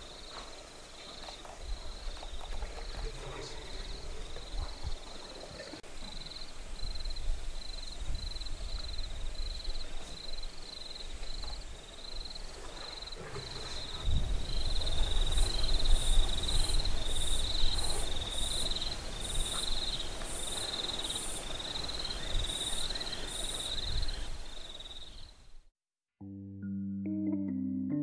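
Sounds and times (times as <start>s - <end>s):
insects trilling: 0.0s - 25.4s.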